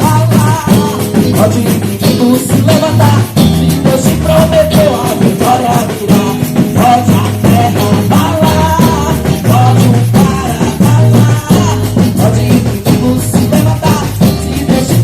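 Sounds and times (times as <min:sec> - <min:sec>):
bass line: 0:00.0 - 0:15.0
drum beat: 0:00.0 - 0:15.0
person singing: 0:00.0 - 0:15.0.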